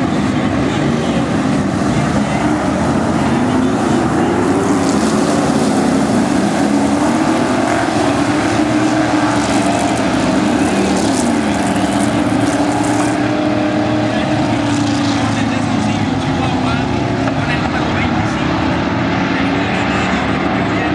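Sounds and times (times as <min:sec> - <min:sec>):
racing car engines: 0:00.0 - 0:20.9.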